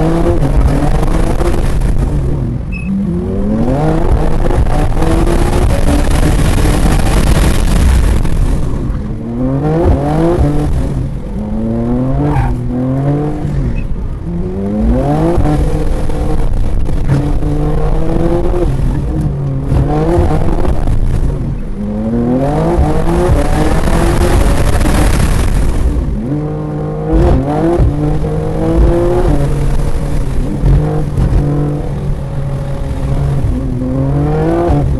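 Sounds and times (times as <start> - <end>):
car engine accelerating hard: 0.0 - 34.9
steady rushing noise: 0.0 - 34.9.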